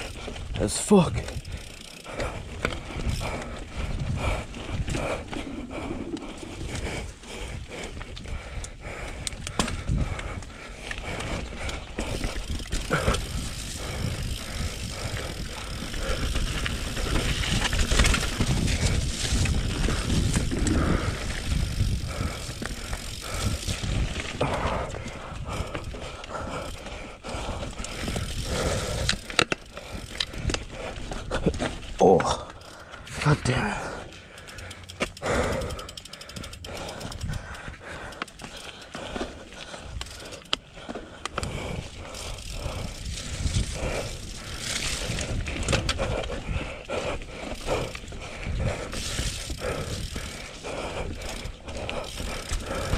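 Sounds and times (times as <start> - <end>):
bike tyres rolling over dirt: 0.0 - 52.9
bike clattering over bumps: 9.1 - 33.1, 34.3 - 52.9.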